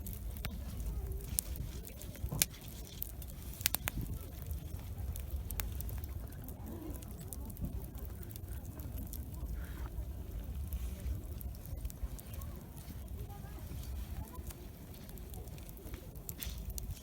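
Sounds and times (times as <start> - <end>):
campfire crackling: 0.0 - 17.0
low steady rumble: 0.0 - 17.0.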